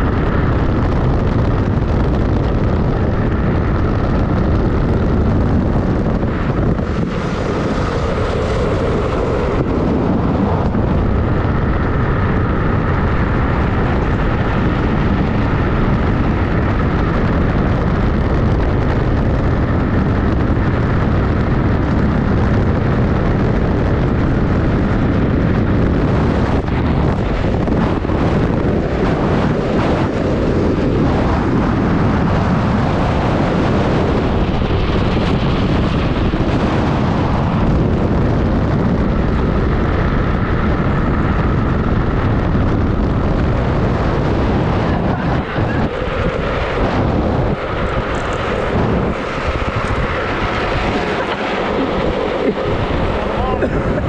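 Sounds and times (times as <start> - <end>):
wheels rumbling on asphalt: 0.0 - 54.0
wind buffeting microphone: 0.0 - 54.0.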